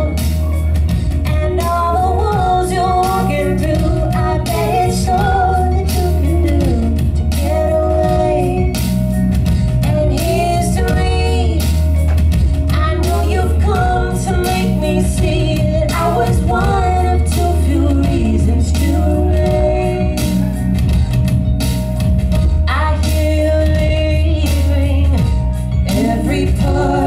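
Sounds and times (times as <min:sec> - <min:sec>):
woman singing into microphone: 0:00.0 - 0:00.3, 0:01.1 - 0:20.8, 0:22.4 - 0:27.0
deep bass and beat: 0:00.0 - 0:27.0.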